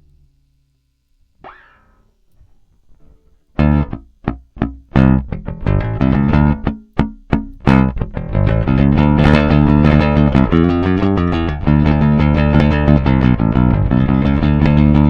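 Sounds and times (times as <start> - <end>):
electric bass riff: 1.4 - 15.0.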